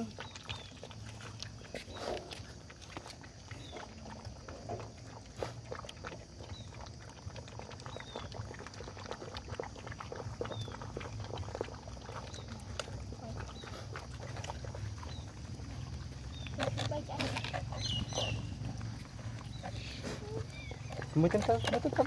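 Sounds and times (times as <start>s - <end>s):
puppies lapping milk: 0.0s - 22.0s.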